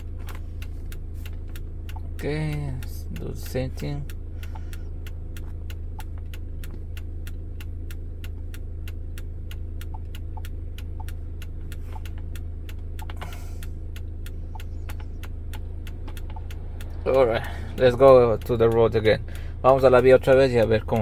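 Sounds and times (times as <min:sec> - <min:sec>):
car engine idling with ticking: 0:00.0 - 0:21.0.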